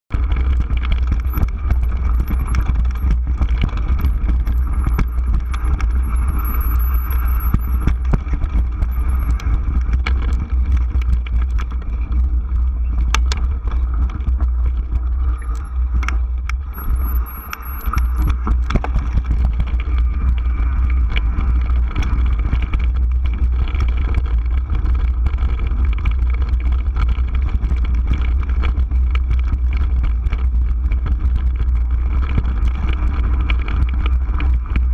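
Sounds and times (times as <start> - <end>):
bike rattling over rock: 0.1 - 16.7, 18.0 - 34.9
tyre rumble on rocky trail: 0.1 - 34.9.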